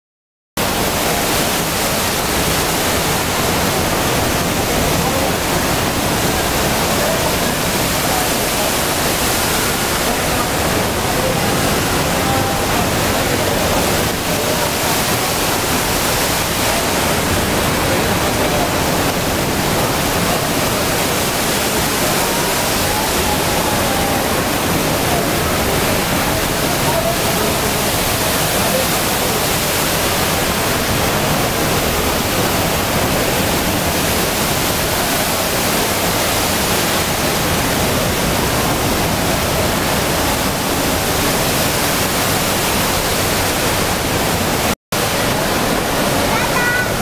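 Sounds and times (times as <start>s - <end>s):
falling and splashing water: 0.6s - 47.0s
faint crowd chatter: 0.8s - 42.4s, 45.1s - 47.0s.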